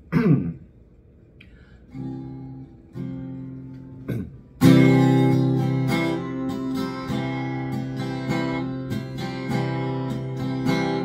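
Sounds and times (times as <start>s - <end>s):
acoustic guitar strumming: 1.9s - 11.0s.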